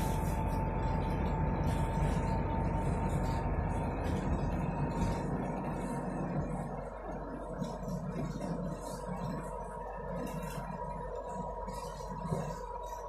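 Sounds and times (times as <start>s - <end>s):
bus interior rumble: 0.0s - 13.0s
thin steady whine: 0.0s - 13.0s.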